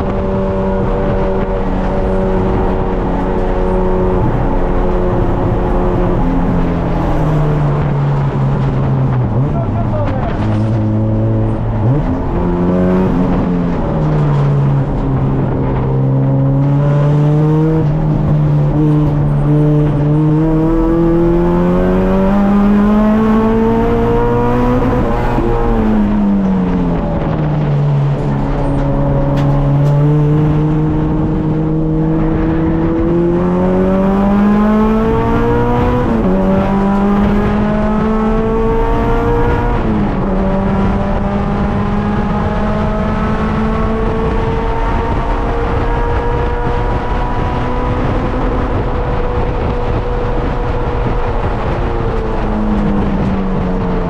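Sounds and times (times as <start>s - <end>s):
car engine revving at speed: 0.0s - 54.0s.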